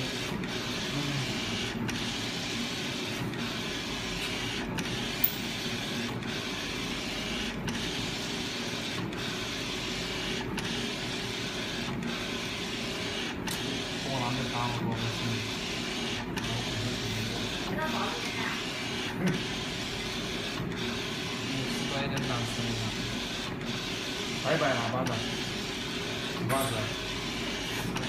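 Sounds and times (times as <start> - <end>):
printer carriage whirring: 0.0 - 28.0.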